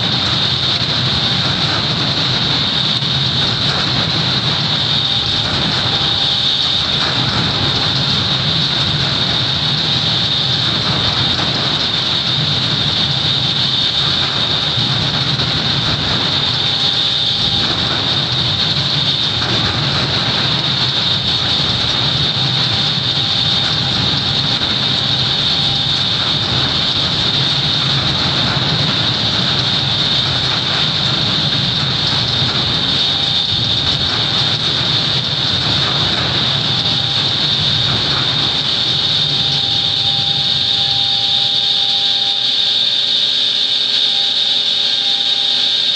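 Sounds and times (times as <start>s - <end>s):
low machine rumble: 0.0s - 45.8s.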